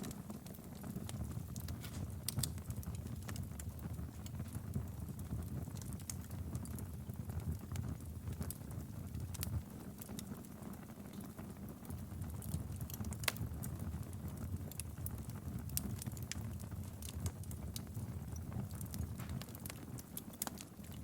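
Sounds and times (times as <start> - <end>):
fire popping and snapping: 0.0 - 21.0
wood fire crackling: 0.0 - 21.0.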